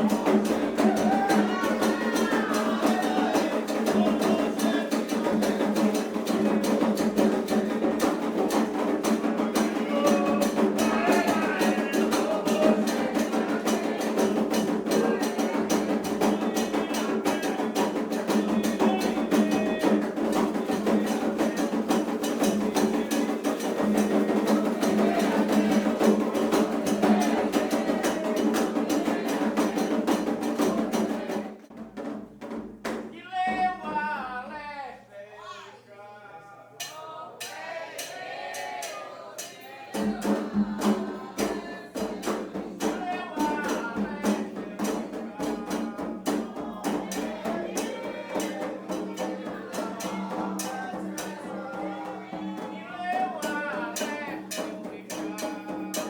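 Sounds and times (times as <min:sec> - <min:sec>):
voices singing: 0:00.0 - 0:31.8, 0:32.9 - 0:56.0
fast drum and bell strikes: 0:00.0 - 0:33.0, 0:36.8 - 0:56.0.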